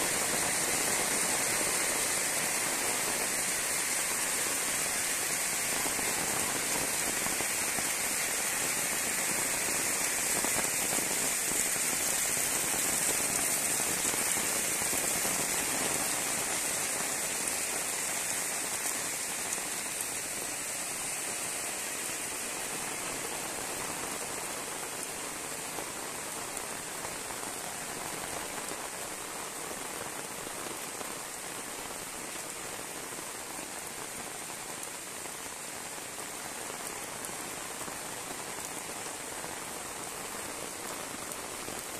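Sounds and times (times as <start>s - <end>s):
heavy rain on concrete: 0.0s - 41.9s.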